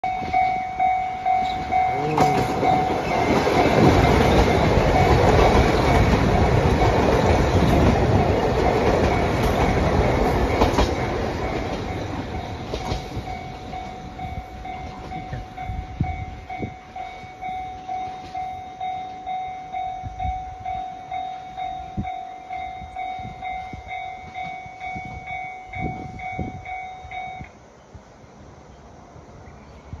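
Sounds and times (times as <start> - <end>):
level crossing warning bell: 0.0 - 27.6
diesel train passing: 0.0 - 30.0.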